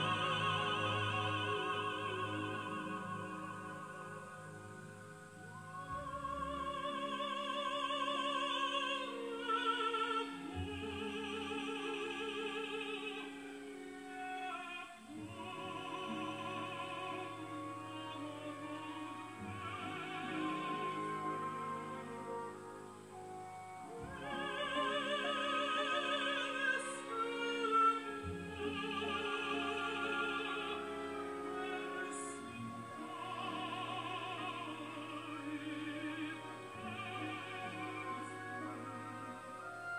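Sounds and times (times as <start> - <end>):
operatic singing with orchestra: 0.0 - 39.9.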